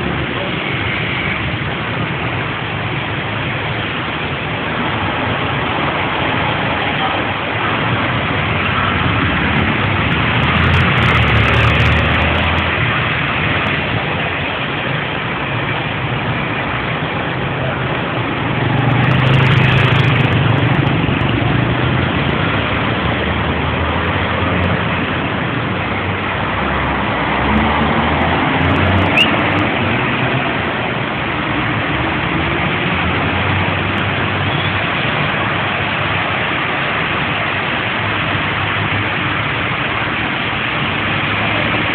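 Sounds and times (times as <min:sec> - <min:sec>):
rain hiss: 0:00.0 - 0:41.9.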